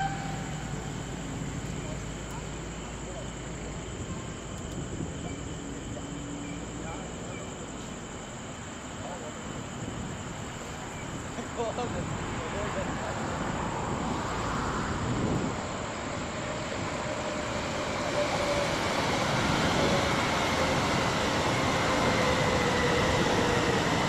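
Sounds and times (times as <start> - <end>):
train rushing rumble: 0.0 - 24.0.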